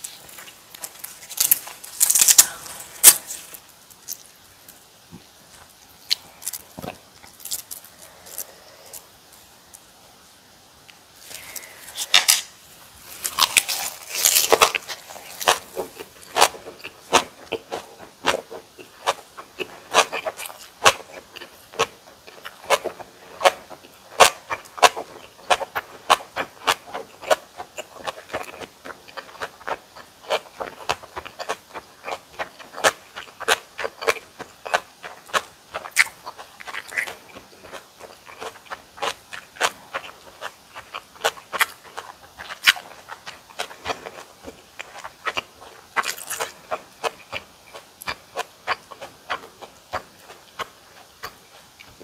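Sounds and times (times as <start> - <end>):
crunchy chewing: 0.0 - 4.8, 5.5 - 9.8, 11.2 - 52.0.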